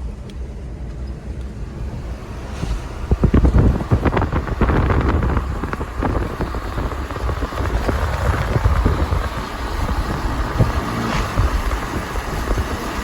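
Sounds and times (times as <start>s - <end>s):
car driving on road: 0.0s - 13.0s
wind buffeting microphone: 0.0s - 13.0s.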